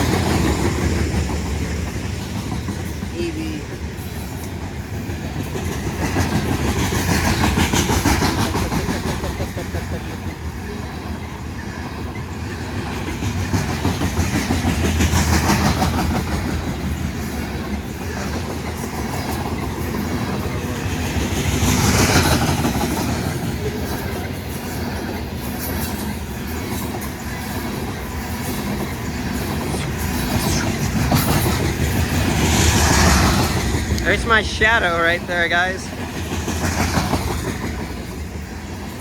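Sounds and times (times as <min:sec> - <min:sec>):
steel wheels clicking over rail joints: 0:00.0 - 0:39.0
train cars rolling past: 0:00.0 - 0:39.0.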